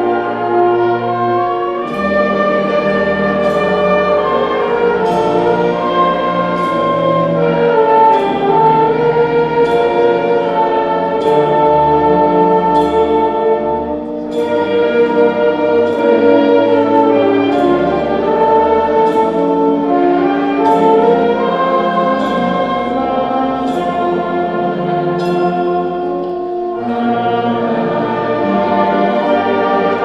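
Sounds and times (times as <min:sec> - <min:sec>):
brass and woodwind chords: 0:00.0 - 0:30.0
percussion strikes: 0:00.0 - 0:30.0.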